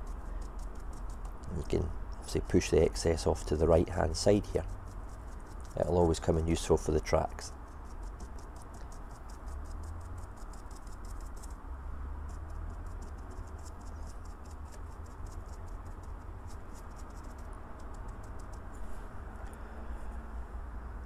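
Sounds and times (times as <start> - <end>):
brush bristles ticking on grit: 0.0 - 11.6, 12.2 - 18.7.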